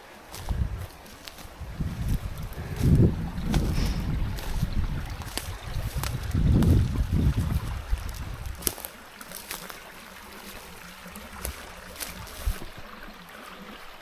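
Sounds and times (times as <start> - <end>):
wind buffeting microphone: 0.0 - 8.9, 10.6 - 13.2
stream running: 0.0 - 14.0.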